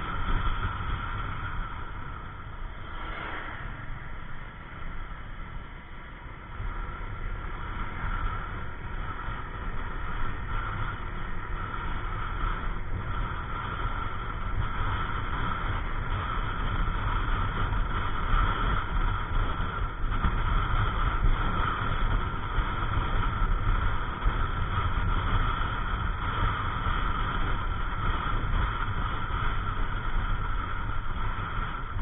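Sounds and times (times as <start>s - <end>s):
scooter engine drone: 0.0s - 32.0s
wind rumble: 0.0s - 32.0s.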